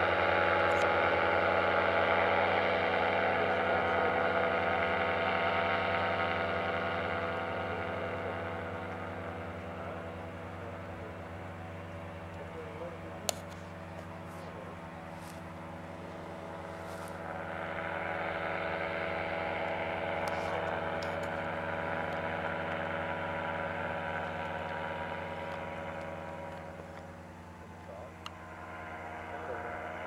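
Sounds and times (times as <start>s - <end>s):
paramotor engine droning: 0.0s - 30.0s.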